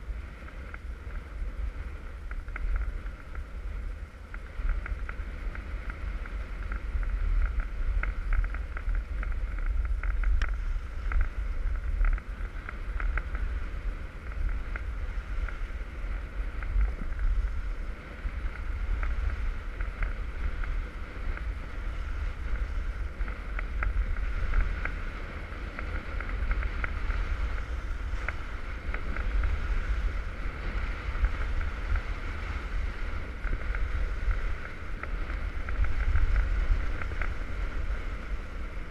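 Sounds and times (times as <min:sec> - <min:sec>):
skis scraping on hard snow: 0:00.0 - 0:38.9
wind rumbling on microphone: 0:00.0 - 0:38.9.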